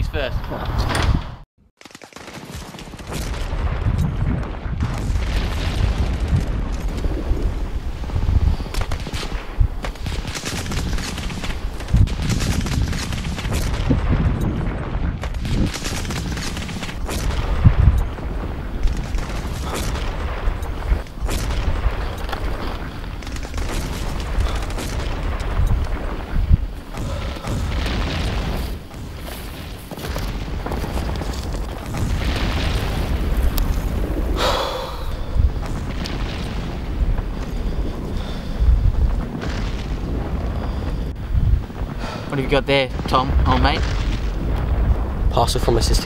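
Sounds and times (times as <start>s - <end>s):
gunfire: 1.8s - 41.1s, 41.8s - 46.0s
booms: 2.4s - 46.0s
low rumble: 3.5s - 42.3s, 42.9s - 45.6s.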